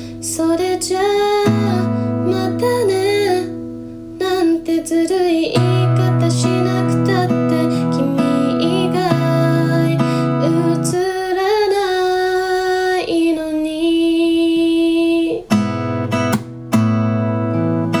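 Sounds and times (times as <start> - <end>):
person singing: 0.0 - 3.6, 4.2 - 15.5
acoustic guitar strumming chords: 0.0 - 13.1, 15.2 - 18.0.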